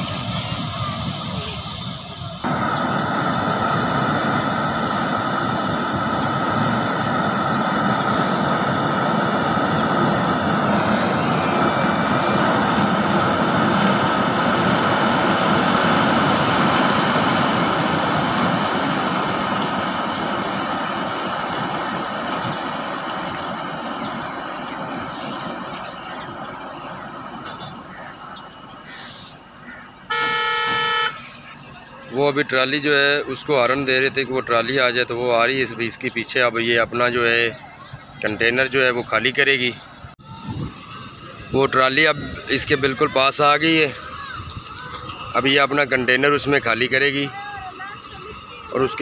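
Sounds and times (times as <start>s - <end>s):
harvester engine drone: 0.0s - 49.0s
high machinery whine: 0.0s - 49.0s.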